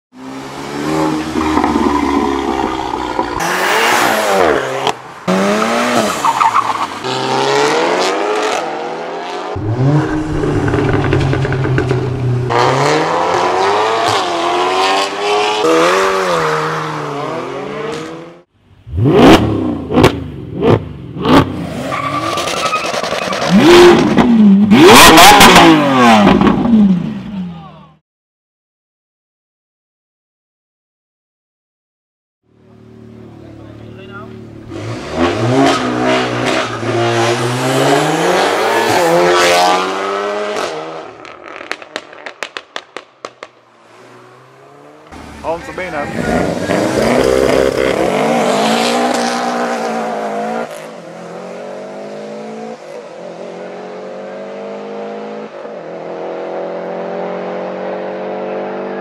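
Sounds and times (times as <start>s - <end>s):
car engine revving: 0.5s - 27.3s, 32.6s - 59.0s.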